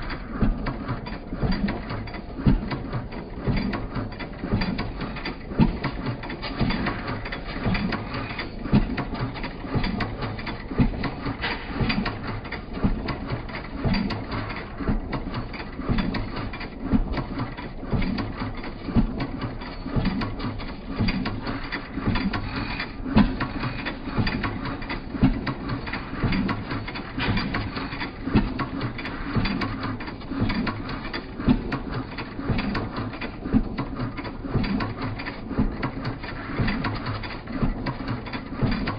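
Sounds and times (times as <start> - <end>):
regular mechanical clicking: 0.0 - 38.9.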